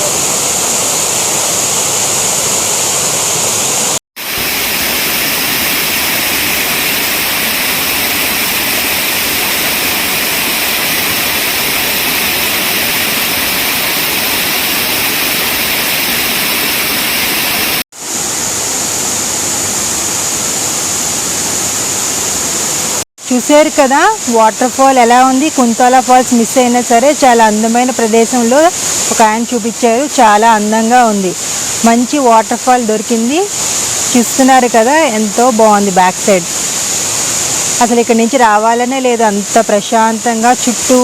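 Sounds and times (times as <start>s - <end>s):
waterfall rushing: 0.0s - 23.0s, 28.0s - 30.4s, 31.3s - 31.8s, 32.5s - 41.0s.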